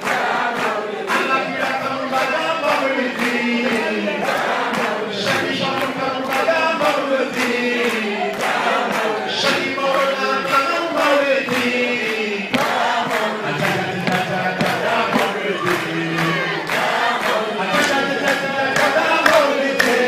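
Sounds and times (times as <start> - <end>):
men singing a devotional chant: 0.0 - 20.0.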